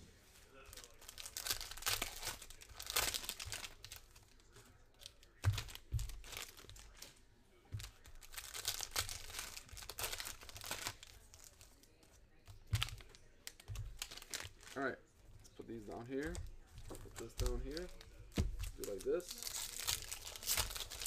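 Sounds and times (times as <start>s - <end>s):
foil wrapper crinkling and tearing: 0.6s - 7.2s, 7.8s - 12.0s, 12.6s - 14.9s, 15.6s - 21.0s.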